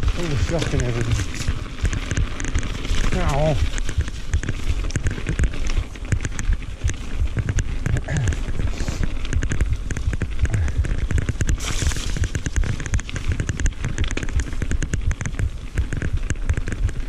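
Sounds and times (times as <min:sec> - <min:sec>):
bike rattling over bumps: 0:00.0 - 0:17.0
tyres rumbling on dirt: 0:00.0 - 0:17.0.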